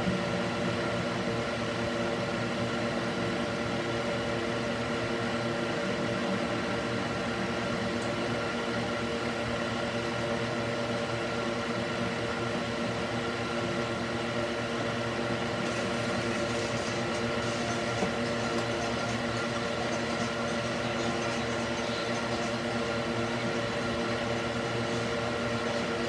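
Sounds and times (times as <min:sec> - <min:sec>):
cooling fan whirring: 0:00.0 - 0:26.0.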